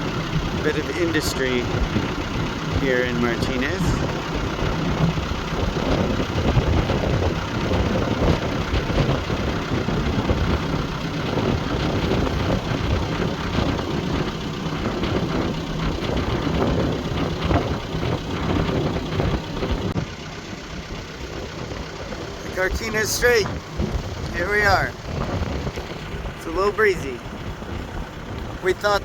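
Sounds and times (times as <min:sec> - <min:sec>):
boat engine running: 0:00.0 - 0:29.0
wind buffeting microphone: 0:00.0 - 0:29.0.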